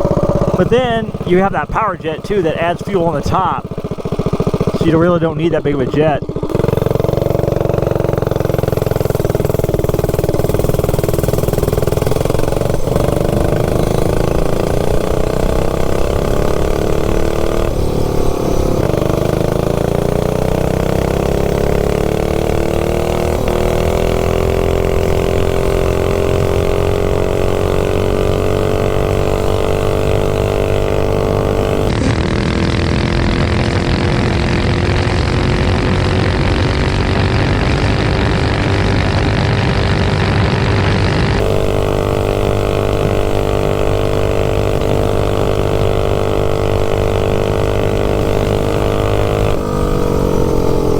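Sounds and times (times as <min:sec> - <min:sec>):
minibike engine accelerating: 0:00.0 - 0:50.9.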